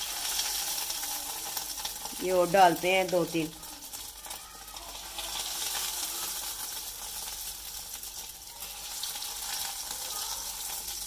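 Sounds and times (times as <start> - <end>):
patties sizzling in hot oil: 0.0 - 11.0.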